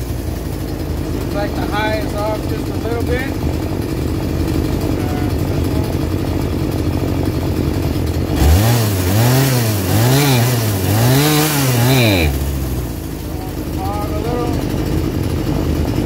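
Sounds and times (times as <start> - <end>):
chainsaw engine idling and revving: 0.0 - 16.0.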